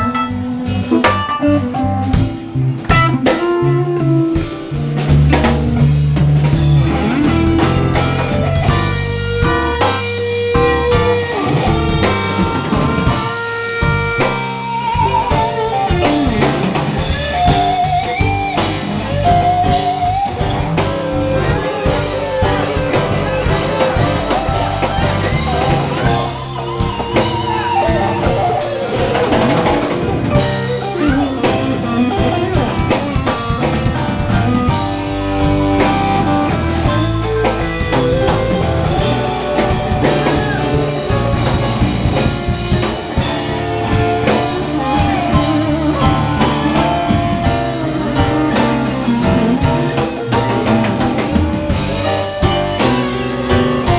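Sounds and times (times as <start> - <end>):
bass guitar: 0.0 - 53.9
drum kit: 0.0 - 53.9
electric guitar: 0.0 - 53.9.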